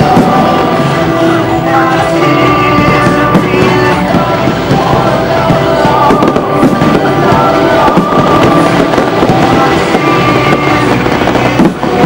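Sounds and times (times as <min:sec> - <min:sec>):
fireworks bursting and crackling: 0:00.0 - 0:12.0
music playing: 0:00.0 - 0:12.0.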